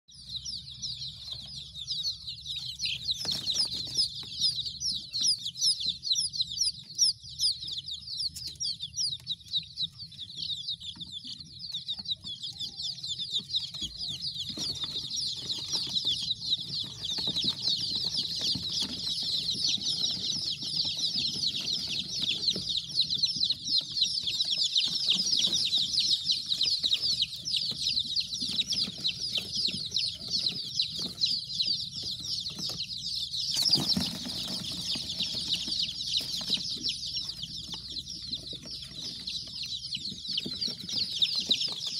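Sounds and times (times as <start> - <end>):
chicks peeping: 0.1 - 41.9.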